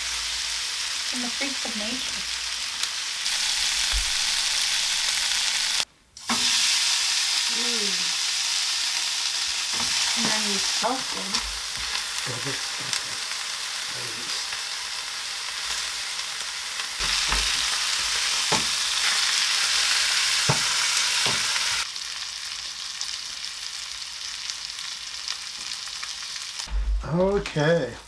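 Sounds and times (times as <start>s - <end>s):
steak sizzling in a hot pan: 0.0s - 26.7s.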